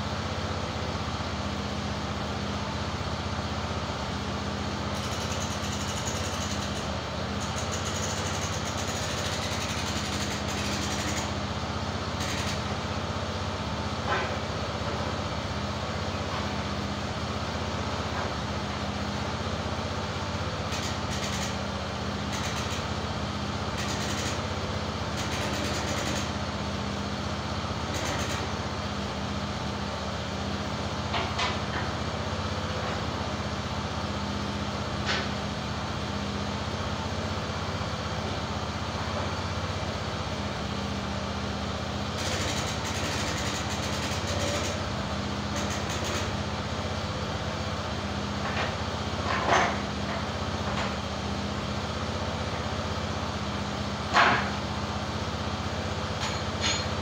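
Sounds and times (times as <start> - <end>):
gasoline engine running: 0.0 - 57.0.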